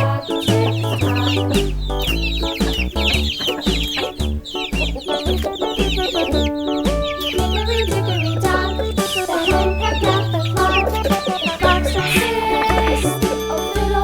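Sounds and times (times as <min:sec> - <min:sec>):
chickens clucking: 0:00.0 - 0:14.0
children's song with bass line: 0:00.0 - 0:14.0.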